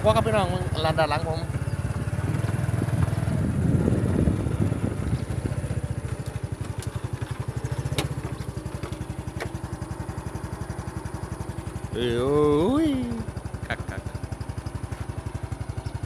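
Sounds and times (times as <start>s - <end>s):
small motorcycle engine chugging: 0.0s - 16.0s.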